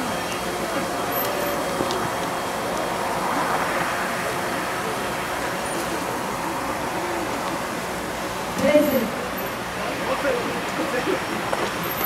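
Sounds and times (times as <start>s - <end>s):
faint indistinct voices: 0.0s - 12.0s.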